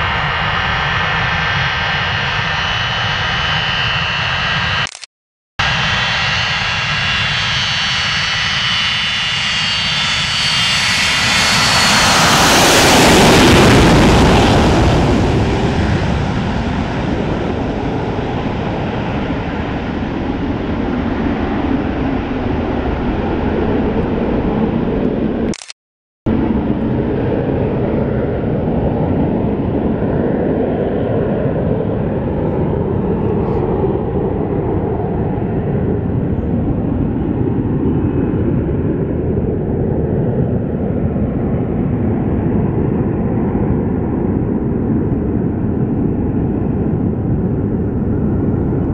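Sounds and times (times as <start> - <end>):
jet engine roar: 0.0 - 25.7, 26.3 - 48.9.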